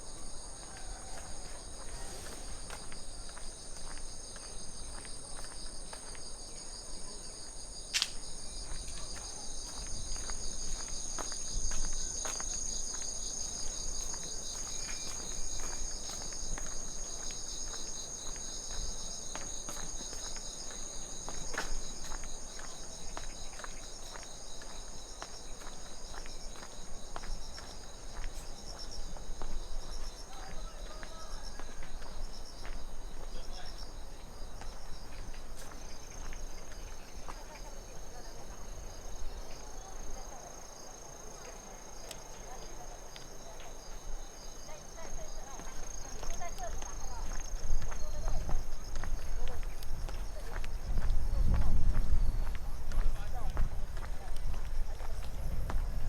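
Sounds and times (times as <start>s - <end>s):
crickets chirping: 0.0s - 56.0s
footsteps on a trail: 0.0s - 56.0s.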